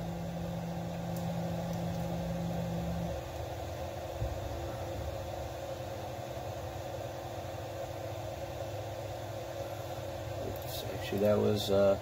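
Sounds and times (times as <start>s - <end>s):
background machine hum: 0.0s - 12.0s
stepper motors humming: 0.0s - 12.0s.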